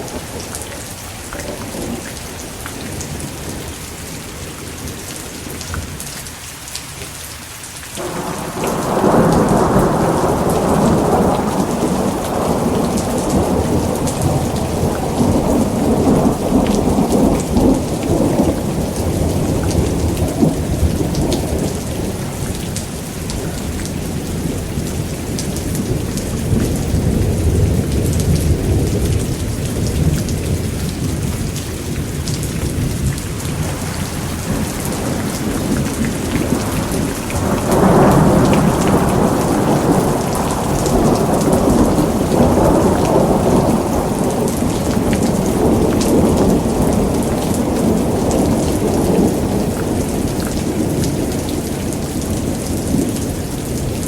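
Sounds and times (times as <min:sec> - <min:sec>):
thunder rumbling: 0:00.0 - 0:06.0, 0:08.0 - 0:54.0
heavy rain: 0:00.0 - 0:54.0.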